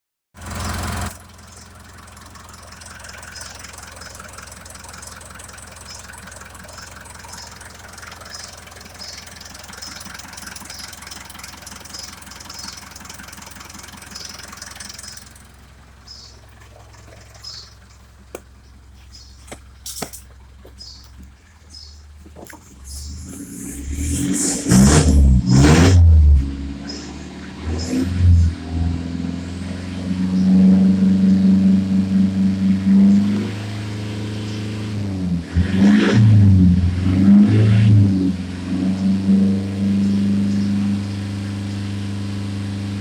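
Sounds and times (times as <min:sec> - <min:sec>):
diesel engine idling: 0:00.4 - 0:43.0.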